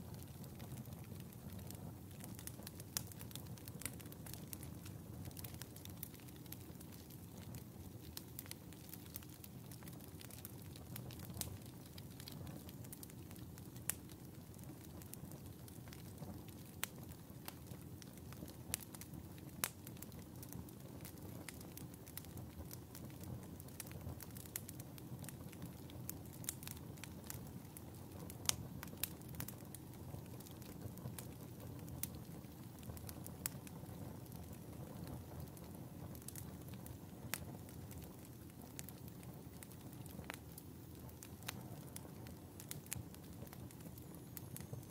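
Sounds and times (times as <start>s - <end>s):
fire crackling and popping: 0.0s - 44.9s
flames rumbling: 0.0s - 44.9s.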